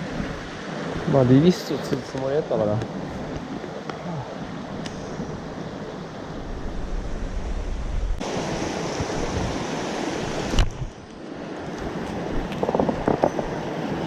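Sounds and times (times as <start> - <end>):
mountain stream rushing: 0.0 - 14.0
wind rumbling on microphone: 0.0 - 14.0.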